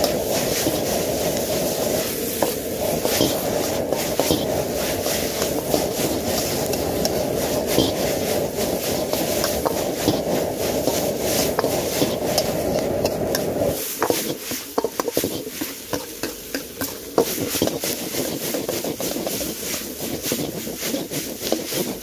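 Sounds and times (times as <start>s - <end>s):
food sizzling: 0.0s - 22.0s
ladle scraping a wok: 0.0s - 22.0s.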